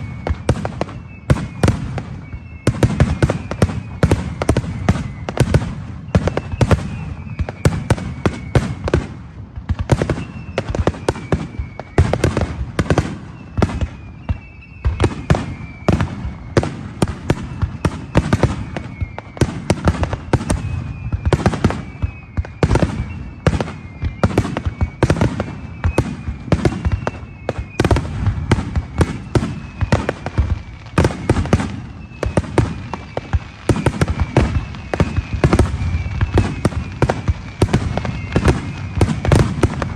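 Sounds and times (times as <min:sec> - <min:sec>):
fireworks bangs and crackles: 0:00.0 - 0:39.9
fireworks whistling: 0:00.0 - 0:39.9.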